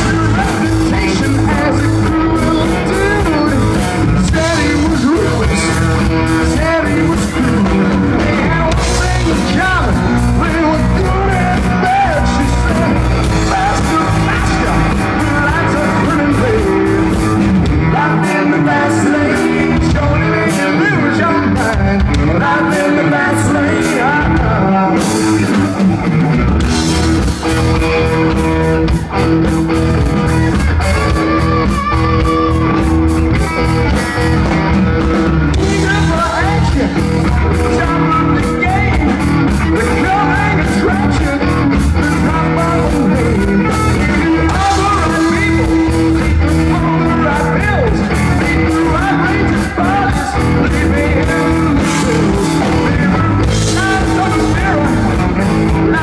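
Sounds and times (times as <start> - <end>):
drum kit: 0.0 - 56.0
electric bass: 0.0 - 56.0
electric guitar: 0.0 - 56.0
man singing lead: 0.0 - 56.0.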